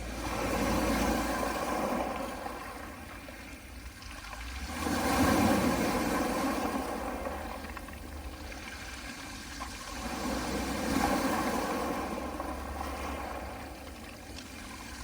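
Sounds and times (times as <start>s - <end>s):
waves washing onto pebble beach: 0.0s - 3.5s, 4.4s - 15.0s.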